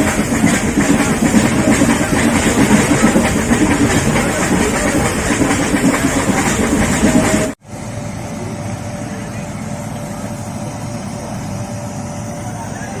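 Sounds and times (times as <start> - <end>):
train coaches rumbling and rattling: 0.0 - 13.0.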